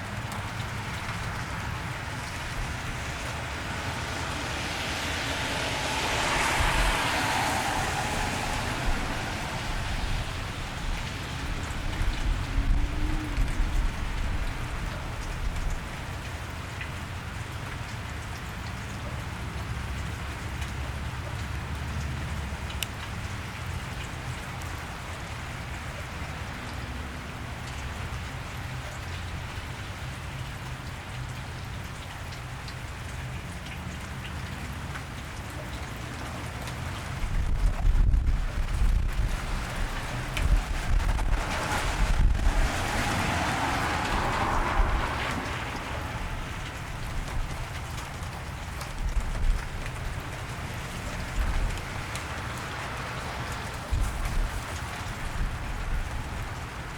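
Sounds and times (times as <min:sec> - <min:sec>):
vehicle tyre hiss on wet road: 0:00.0 - 0:18.6, 0:21.7 - 0:56.9
rain falling on wet street: 0:00.0 - 0:56.9.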